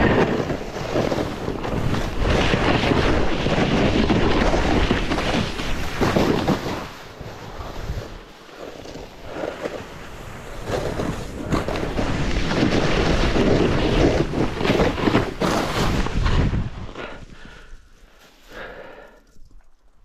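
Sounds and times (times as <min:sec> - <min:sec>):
wind on microphone: 0:00.0 - 0:17.7
snowboard scraping through snow: 0:00.0 - 0:18.9.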